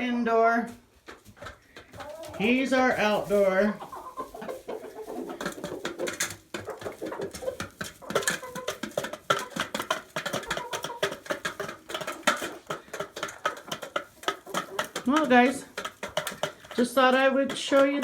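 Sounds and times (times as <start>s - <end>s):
chickens pecking grain: 0.8s - 18.0s.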